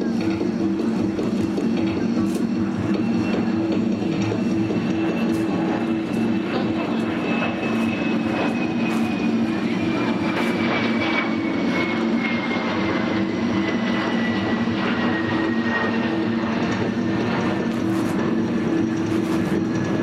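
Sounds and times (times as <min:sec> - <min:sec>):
airplane passing over: 0:00.0 - 0:20.0.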